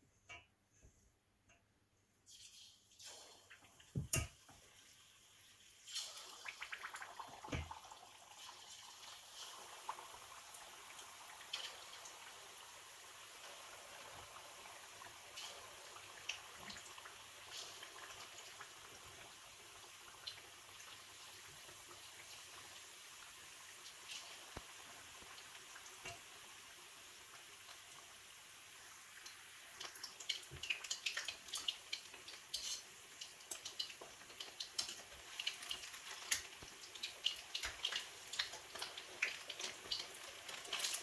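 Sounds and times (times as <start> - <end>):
food sizzling in hot oil: 2.3 - 41.0.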